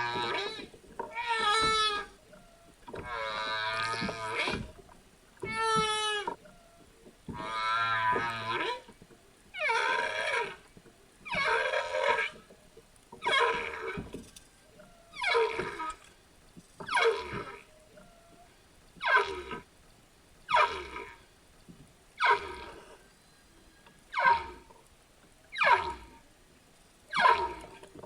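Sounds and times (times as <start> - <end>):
humpback whale calls: 0.0 - 12.6, 13.2 - 16.1, 16.9 - 19.7, 22.2 - 24.7, 25.5 - 26.2, 27.1 - 28.0.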